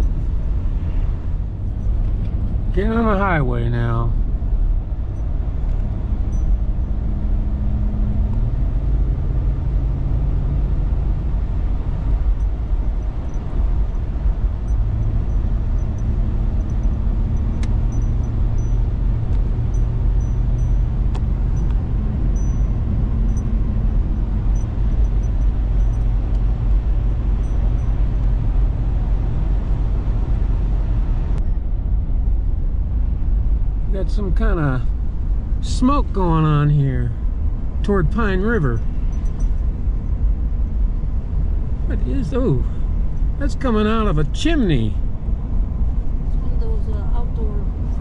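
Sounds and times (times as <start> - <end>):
engine and road rumble in cab: 0.0 - 48.0.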